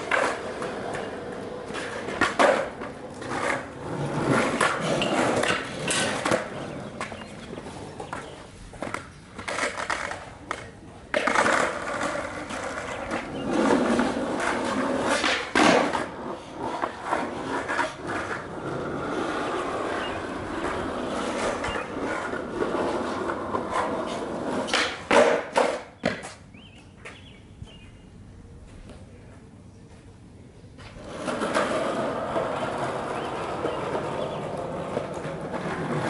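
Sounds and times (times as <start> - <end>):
skateboard clacking on ground: 0.0 - 27.4, 30.8 - 36.0
skateboard wheels rolling on asphalt: 0.0 - 36.0.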